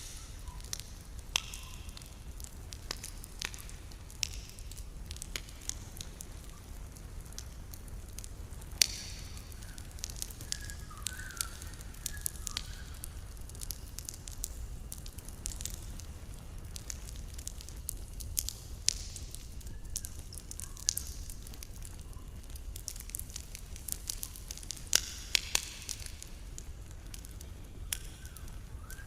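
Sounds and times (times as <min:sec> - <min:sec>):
campfire crackling and popping: 0:00.0 - 0:29.0
low fire rumble: 0:00.0 - 0:29.0.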